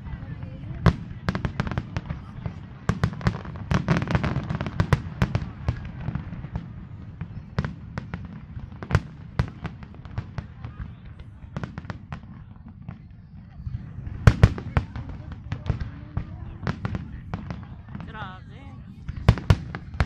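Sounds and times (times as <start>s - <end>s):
firework bursts and crackles: 0.0s - 20.0s.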